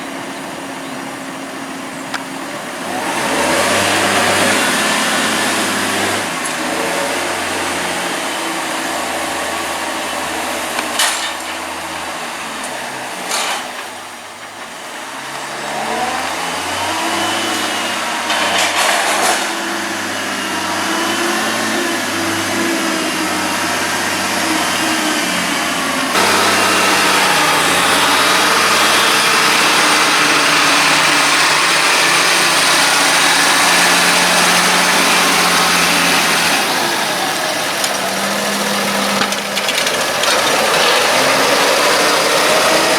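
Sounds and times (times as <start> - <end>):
tractor engines running: 0.0 - 42.9.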